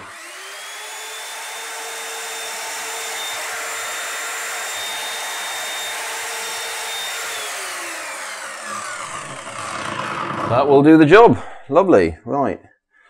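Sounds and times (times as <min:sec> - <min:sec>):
electric chop saw cutting: 0:00.0 - 0:10.9.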